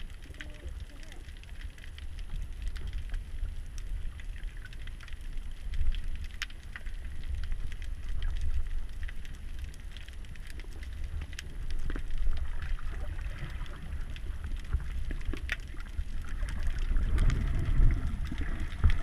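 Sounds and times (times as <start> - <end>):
low rumble of moving water: 0.0 - 19.0.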